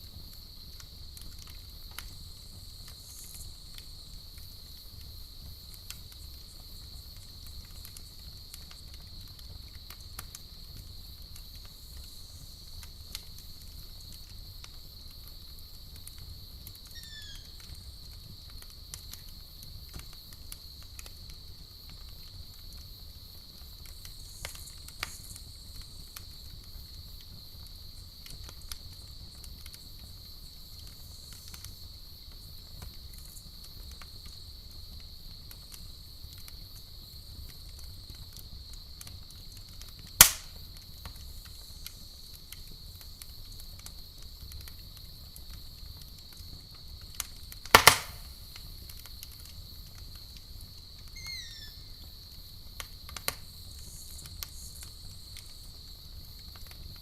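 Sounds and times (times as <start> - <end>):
campfire crackling and popping: 0.0 - 57.0
crickets chorus: 0.0 - 57.0.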